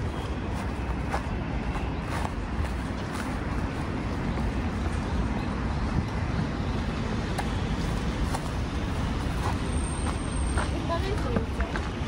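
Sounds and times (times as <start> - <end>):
passing vehicles rumble: 0.0 - 12.0.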